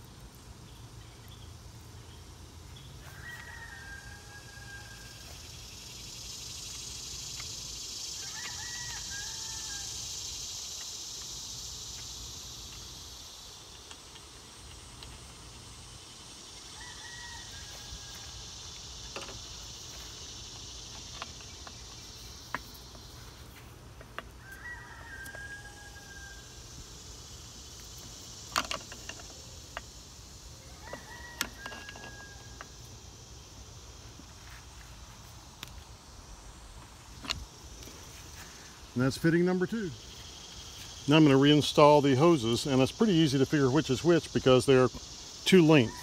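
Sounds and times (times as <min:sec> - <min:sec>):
high insect drone: 0:00.0 - 0:46.0.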